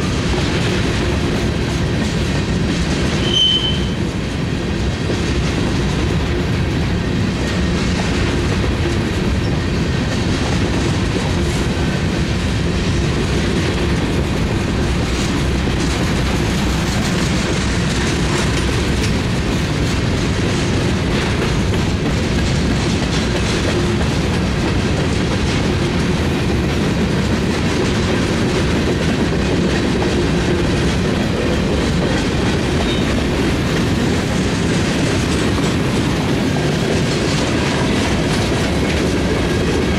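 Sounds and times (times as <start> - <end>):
train wheels rumbling on rails: 0.0 - 39.9
clicking over rail joints: 7.3 - 39.9.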